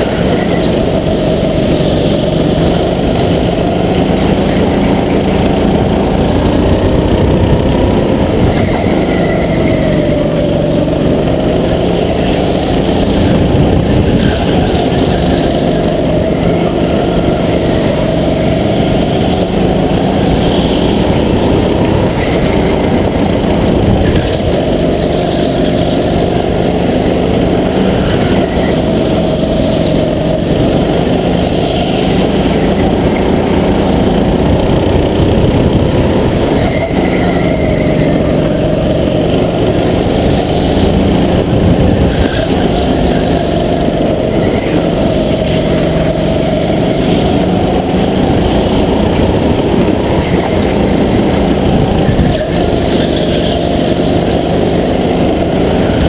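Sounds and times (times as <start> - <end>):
constant low rumble: 0.0 - 56.0
go-kart engine revving: 0.0 - 56.0.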